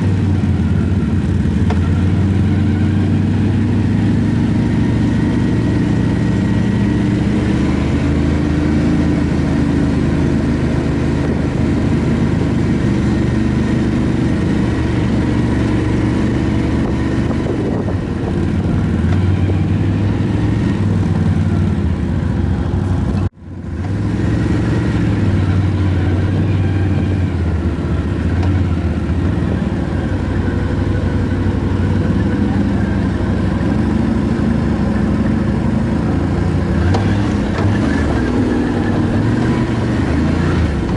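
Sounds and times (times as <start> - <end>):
quad bike engine revving: 0.0 - 40.9.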